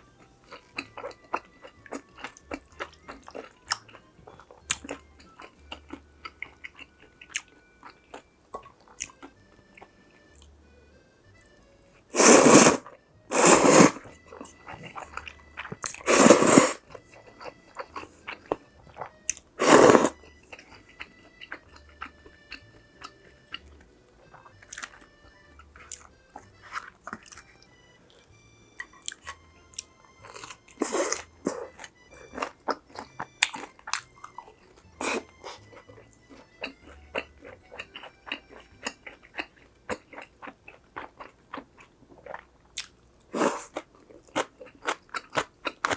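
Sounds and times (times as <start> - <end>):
quiet background music: 0.0 - 45.9
crunchy food biting and chewing: 0.4 - 10.5, 12.1 - 45.9.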